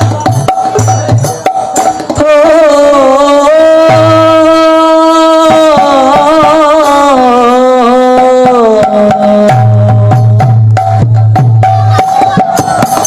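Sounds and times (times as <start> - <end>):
tabla strokes: 0.0 - 13.0.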